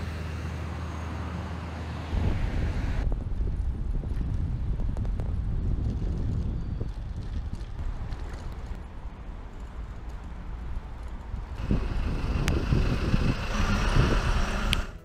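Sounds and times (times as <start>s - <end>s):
bicycle tyre and road noise: 0.0s - 15.0s
wind rumble on microphone: 2.1s - 15.0s.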